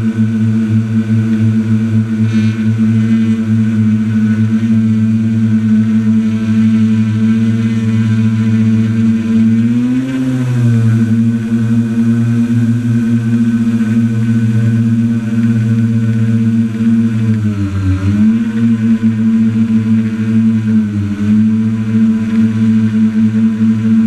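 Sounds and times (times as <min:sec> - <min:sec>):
quadcopter propellers humming: 0:00.0 - 0:24.0.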